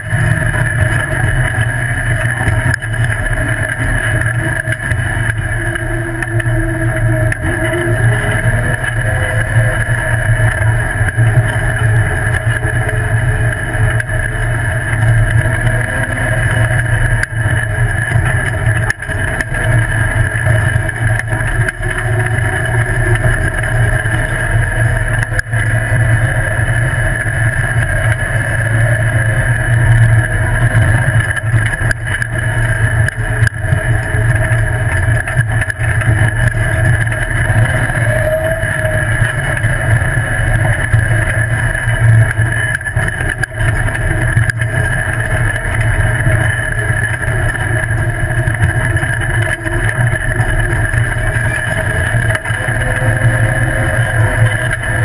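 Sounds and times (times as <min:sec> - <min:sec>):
buggy engine rumbling: 0:00.0 - 0:55.0.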